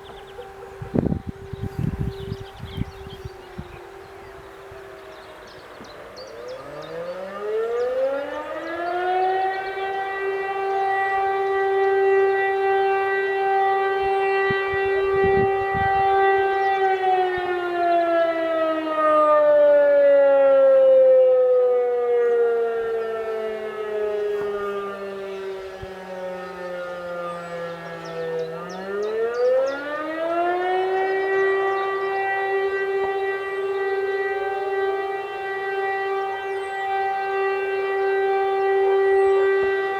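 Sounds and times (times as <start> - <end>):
fire siren winding up and down: 0.0 - 39.9
siren holding steady tone: 0.0 - 39.9.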